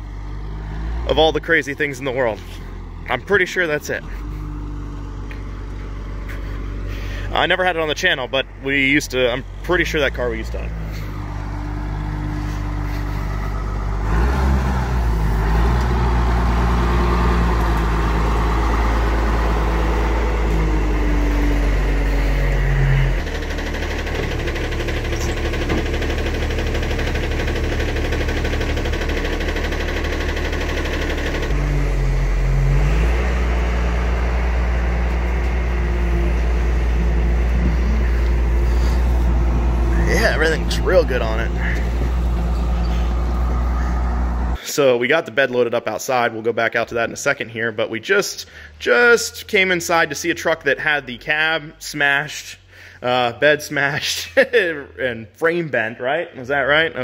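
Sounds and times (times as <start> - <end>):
diesel engine under load: 0.0 - 47.2, 47.8 - 55.1.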